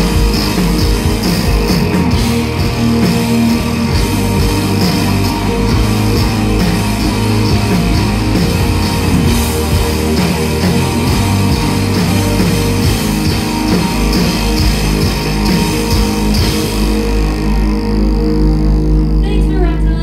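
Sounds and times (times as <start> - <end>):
drum kit with cymbals: 0.0 - 17.6
bass guitar: 0.0 - 20.0
electric guitars: 0.0 - 20.0.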